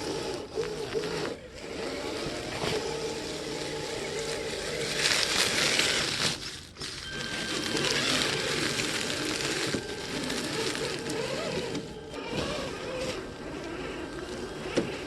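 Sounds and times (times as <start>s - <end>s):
small electric motor whining: 0.0s - 15.0s
tyres crunching on icy snow: 0.0s - 15.0s.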